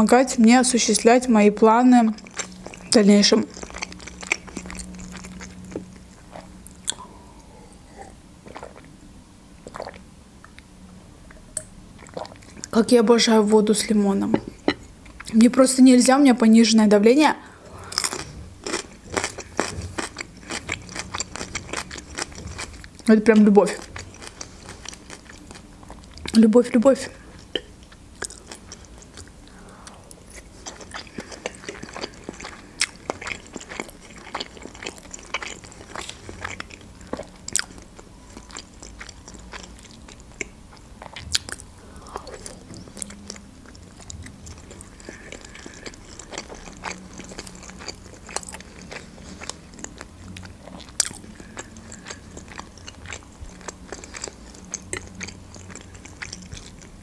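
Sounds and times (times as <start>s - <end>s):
chewing and wet mouth sounds: 1.9s - 9.0s, 9.6s - 10.7s, 11.3s - 12.8s, 14.3s - 15.5s, 17.6s - 57.0s.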